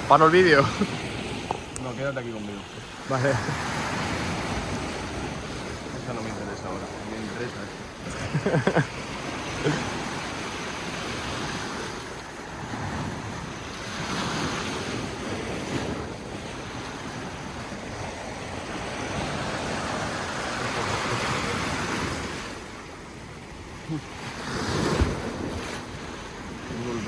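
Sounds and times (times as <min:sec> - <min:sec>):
sea waves washing on shore: 0:00.0 - 0:27.0.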